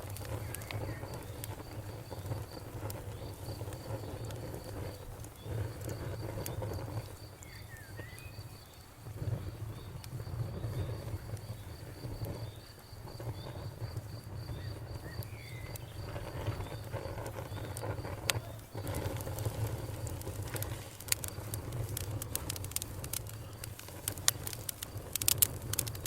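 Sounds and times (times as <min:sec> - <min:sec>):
campfire crackling: 0:00.0 - 0:26.0
cricket chirping: 0:00.0 - 0:26.0
fire popping: 0:00.0 - 0:26.0.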